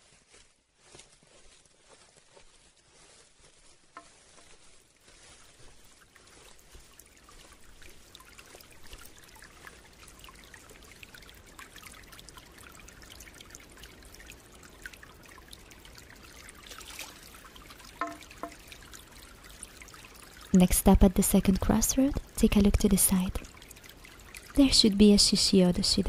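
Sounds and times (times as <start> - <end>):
faint trickling water: 0.0 - 26.0.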